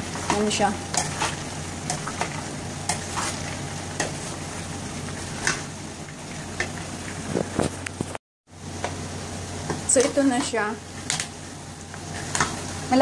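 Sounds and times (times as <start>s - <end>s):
peanuts sizzling in oil: 0.0s - 7.4s, 8.5s - 13.0s.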